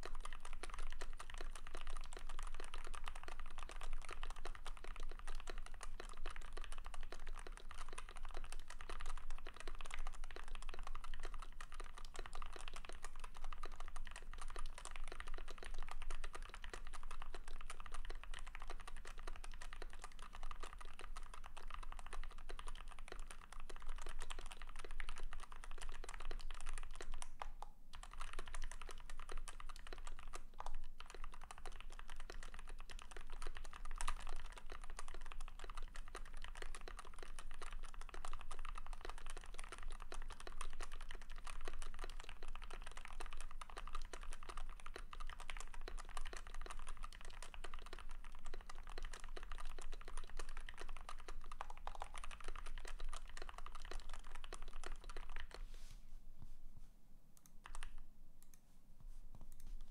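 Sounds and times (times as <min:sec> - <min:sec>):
mechanical keyboard typing: 0:00.0 - 0:55.7, 0:57.4 - 0:58.6.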